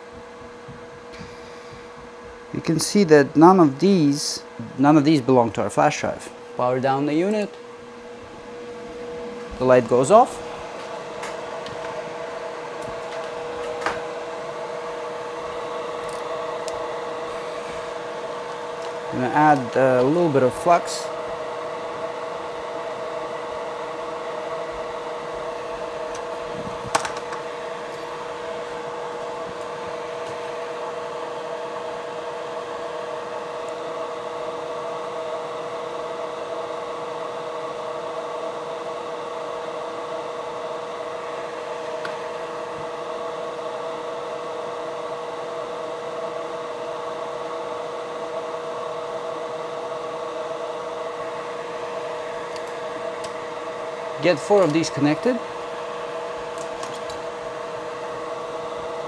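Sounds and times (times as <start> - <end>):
electric fan humming: 0.0 - 59.0.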